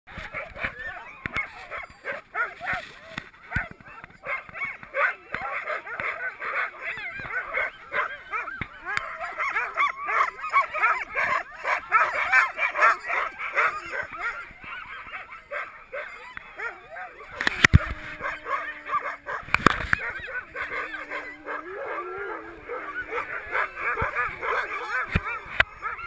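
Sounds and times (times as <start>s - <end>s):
sled dogs yipping and howling: 0.1s - 26.0s.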